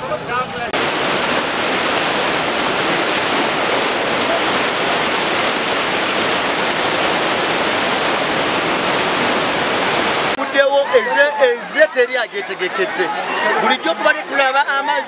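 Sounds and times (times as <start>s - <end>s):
floodwater rushing: 0.6s - 15.0s.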